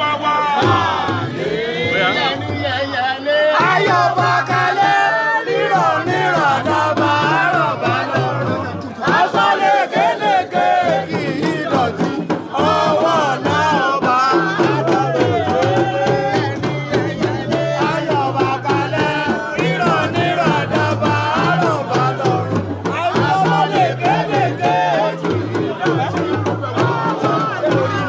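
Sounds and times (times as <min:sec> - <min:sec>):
drumming: 0:00.0 - 0:28.0
voices singing: 0:00.0 - 0:28.0.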